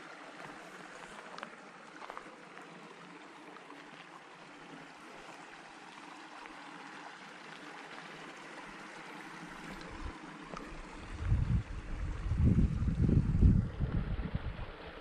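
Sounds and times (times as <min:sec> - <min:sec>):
stream rushing and trickling: 0:00.0 - 0:15.0.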